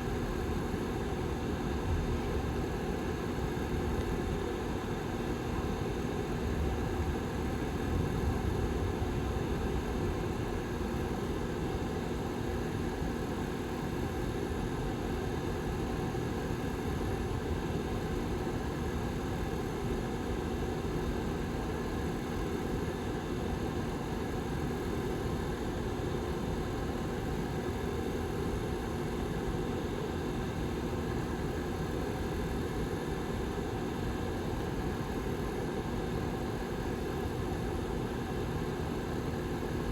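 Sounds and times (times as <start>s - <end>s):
faint steady hum: 0.0s - 39.9s
heater fan air rush: 0.0s - 39.9s.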